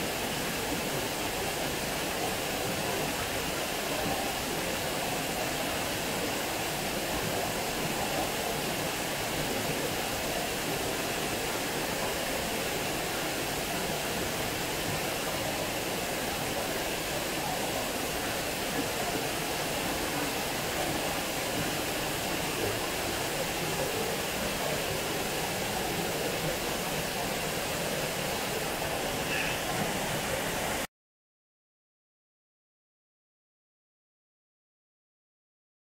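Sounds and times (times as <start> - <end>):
water rushing over weir: 0.0 - 30.9.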